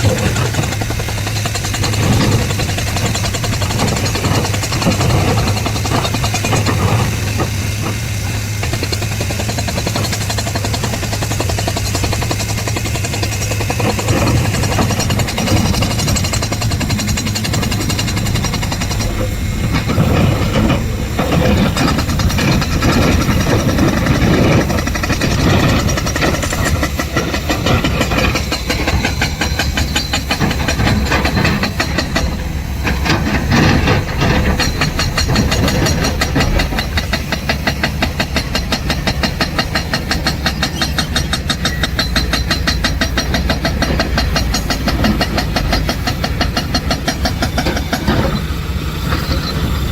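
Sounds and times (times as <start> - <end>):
rapid rattling knocks: 0.0 - 48.3
excavator diesel engine under load: 0.0 - 49.9.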